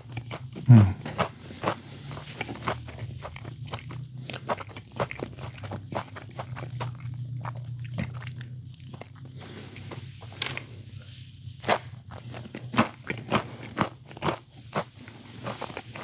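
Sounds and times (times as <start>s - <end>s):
crunchy chewing bites: 0.0s - 10.7s, 11.6s - 16.0s.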